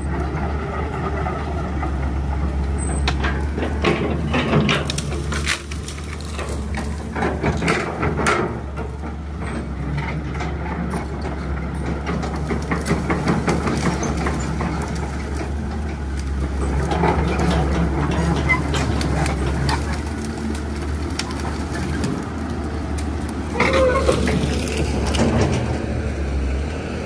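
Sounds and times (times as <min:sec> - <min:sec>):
rattles and clicks: 0:00.0 - 0:26.3
truck engine droning: 0:00.0 - 0:27.0.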